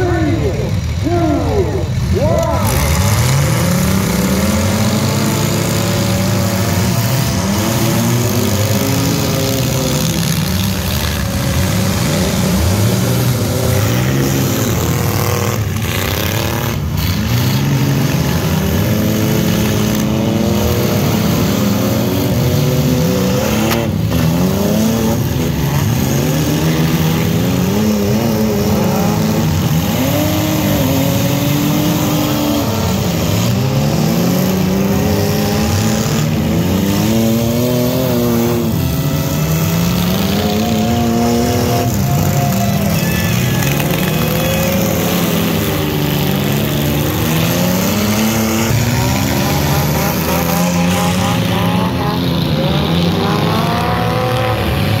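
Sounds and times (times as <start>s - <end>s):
engines revving: 0.0s - 55.0s.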